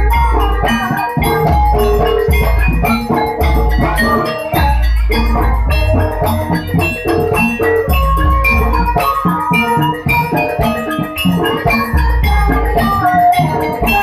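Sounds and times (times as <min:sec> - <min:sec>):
drums: 0:00.0 - 0:14.0
struck metal percussion: 0:00.0 - 0:14.0.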